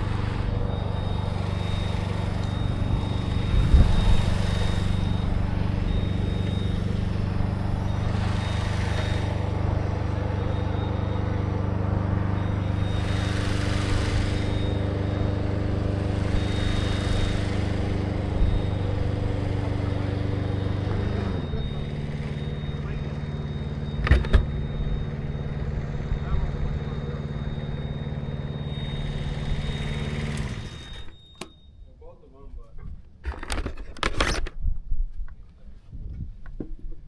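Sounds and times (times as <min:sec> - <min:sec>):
aerial lift engine running: 0:00.0 - 0:31.9
thin high whine: 0:00.0 - 0:34.4.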